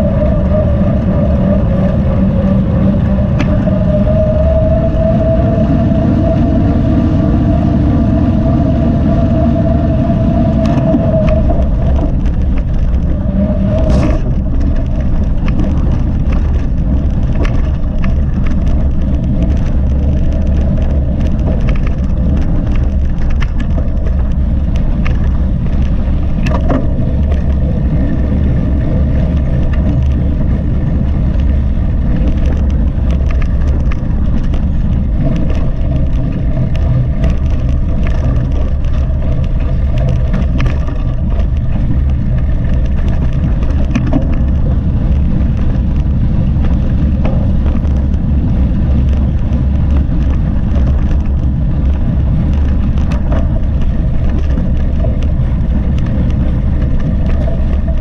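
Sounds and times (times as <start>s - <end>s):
bike rattles and clicks: 0.0s - 58.0s
tyres on trail: 0.0s - 58.0s
wind on microphone: 0.0s - 58.0s.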